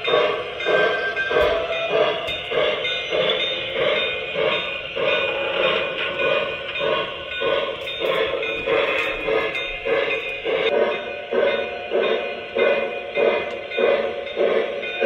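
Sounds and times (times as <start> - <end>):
model train steam chuffing: 0.0 - 15.0
train bell ringing: 0.0 - 15.0.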